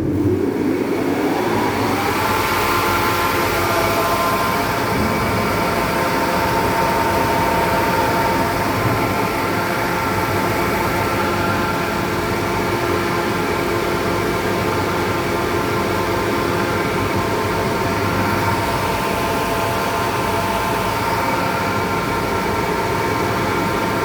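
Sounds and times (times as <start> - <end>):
wide-belt sander running: 0.0 - 24.0.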